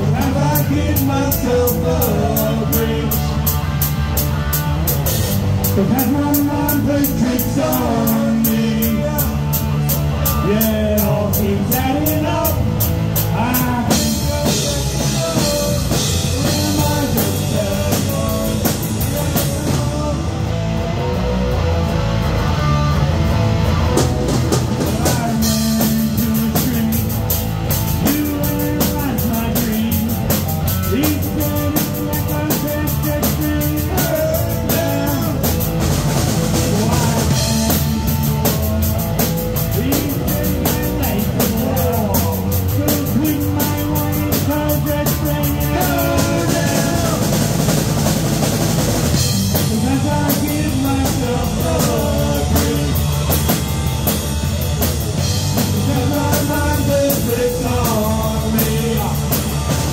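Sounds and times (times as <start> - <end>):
drum kit beat on cymbals: 0.0 - 20.1, 23.9 - 59.9
bass guitar: 0.0 - 59.9
electric guitar: 0.0 - 59.9.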